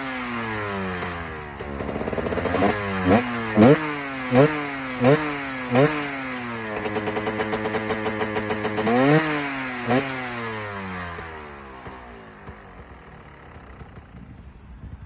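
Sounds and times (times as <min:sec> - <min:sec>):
two-stroke engine revving: 0:00.0 - 0:14.4.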